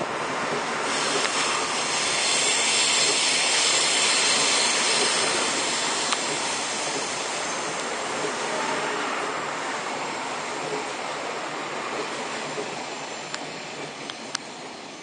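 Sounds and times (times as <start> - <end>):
diesel train passing: 0.0 - 15.0.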